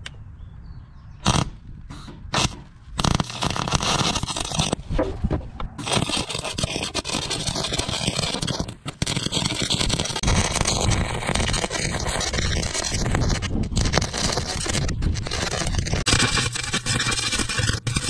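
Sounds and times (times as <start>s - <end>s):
welding arc crackling: 1.2s - 4.8s, 5.8s - 18.0s.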